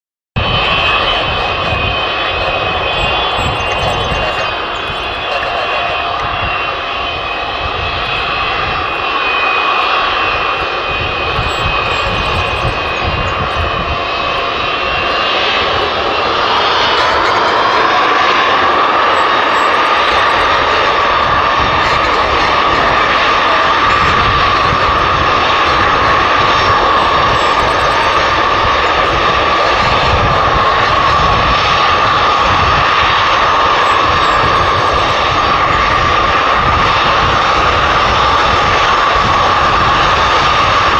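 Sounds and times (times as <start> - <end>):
jet engines roaring with whine: 0.4 - 40.9.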